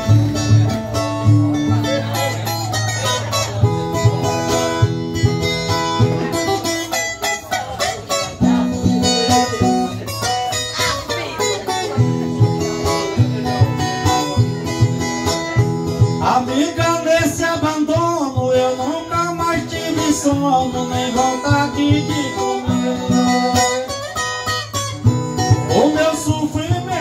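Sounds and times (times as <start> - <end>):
plucked guitar melody: 0.0 - 27.0.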